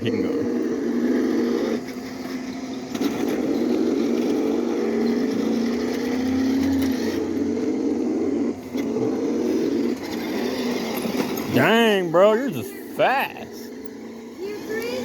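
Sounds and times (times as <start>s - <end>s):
toy car electric drone: 0.0s - 15.0s.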